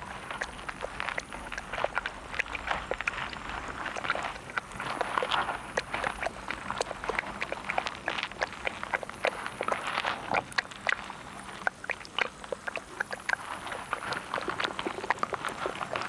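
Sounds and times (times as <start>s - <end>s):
irregular clicks and crackles: 0.0s - 16.0s
wet sucking and chewing: 0.0s - 16.0s.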